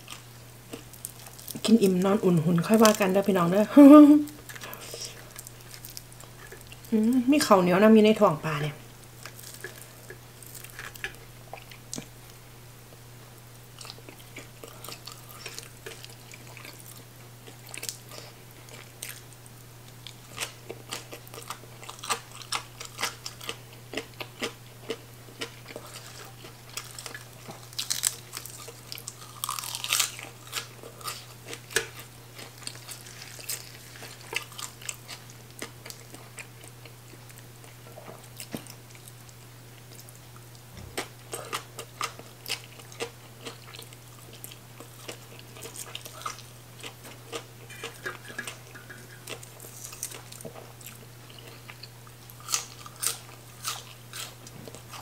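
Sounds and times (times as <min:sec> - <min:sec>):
chewing and crunching food: 0:00.0 - 0:03.2, 0:04.2 - 0:07.0, 0:09.2 - 0:12.4, 0:13.7 - 0:55.0
steady low hum: 0:00.0 - 0:55.0.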